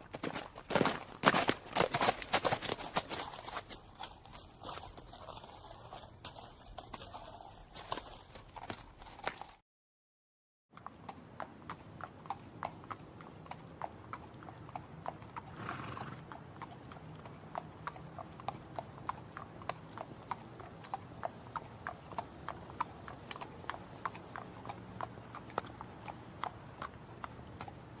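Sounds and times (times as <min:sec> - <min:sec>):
horse hooves striking ground: 0:00.0 - 0:09.6, 0:10.8 - 0:28.0.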